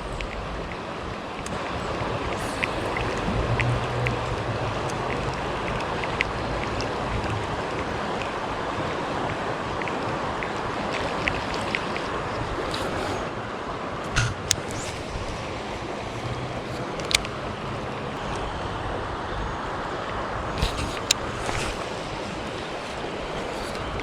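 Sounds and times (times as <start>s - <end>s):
creek water over rocks: 0.0s - 24.0s.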